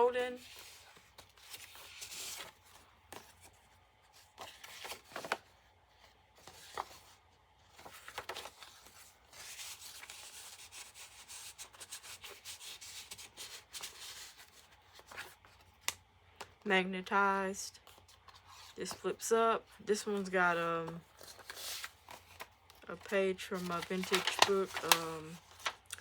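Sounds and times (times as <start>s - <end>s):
paper rustling and sliding: 0.4s - 15.9s, 20.1s - 25.9s.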